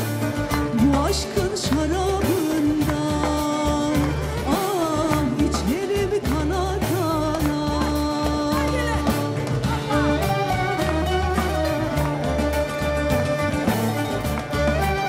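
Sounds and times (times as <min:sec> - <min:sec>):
band with bouzoukis playing: 0:00.0 - 0:15.0
person singing: 0:00.5 - 0:15.0.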